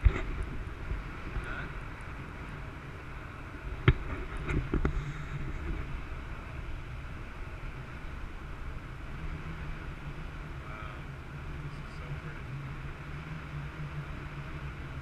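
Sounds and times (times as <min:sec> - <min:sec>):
motorboat engine rumble: 0:00.0 - 0:15.0
wind on microphone: 0:00.0 - 0:15.0.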